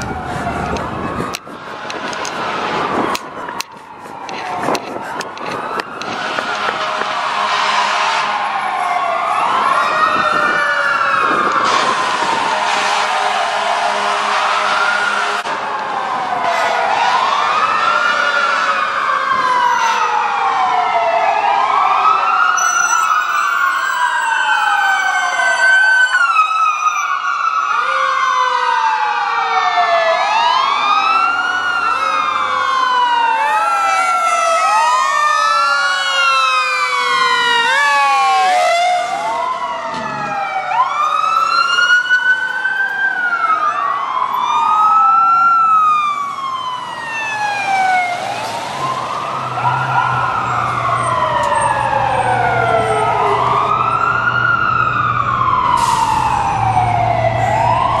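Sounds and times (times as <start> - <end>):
emergency vehicle sirens wailing: 0.0 - 58.0.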